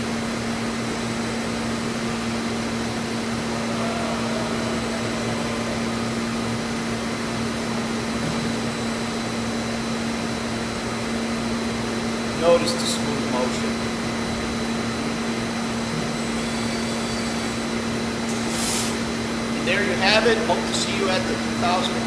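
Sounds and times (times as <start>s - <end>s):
grinding machine humming and hissing: 0.0s - 22.0s.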